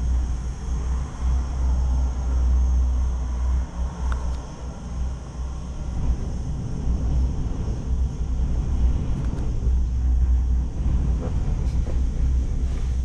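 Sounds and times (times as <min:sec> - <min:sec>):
cable car cabin rumble: 0:00.0 - 0:13.0.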